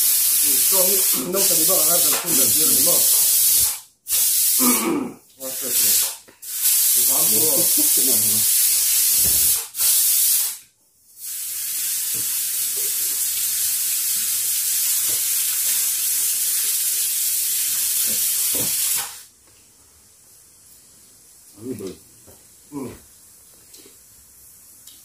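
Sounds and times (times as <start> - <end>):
high-pitched hiss: 0.0 - 25.0.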